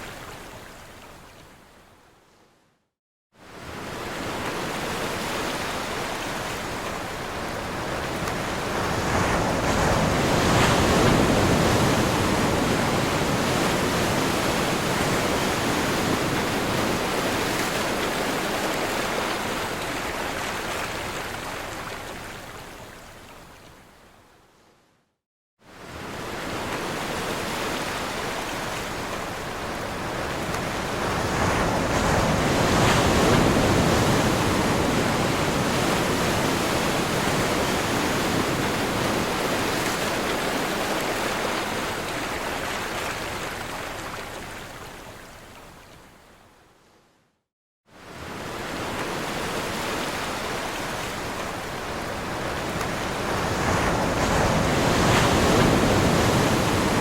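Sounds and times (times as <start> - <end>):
ocean waves breaking on shore: 3.4 - 23.3, 25.6 - 46.0, 47.9 - 57.0.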